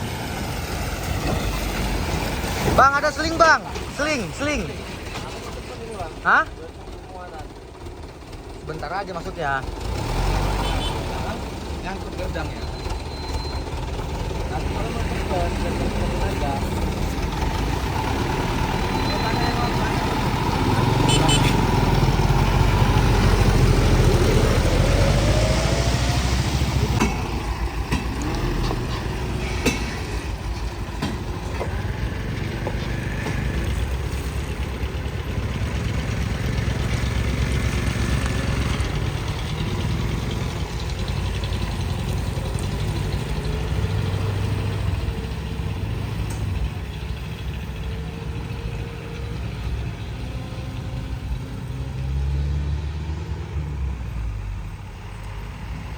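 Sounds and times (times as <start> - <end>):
truck engine idling and revving: 0.0 - 55.9.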